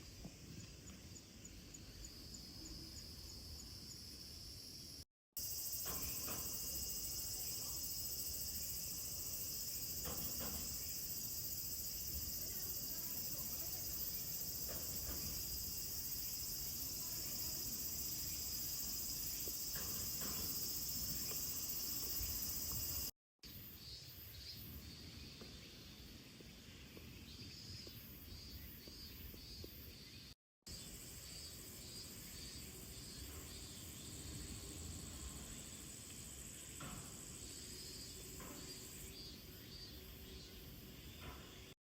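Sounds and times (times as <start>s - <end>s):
high insect chirps: 0.0s - 26.0s, 27.5s - 41.3s
insects trilling: 0.1s - 26.0s, 27.8s - 41.6s.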